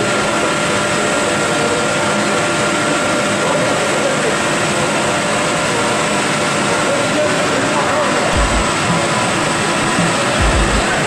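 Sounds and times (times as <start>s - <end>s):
rush of fan and combustion noise: 0.0s - 11.0s.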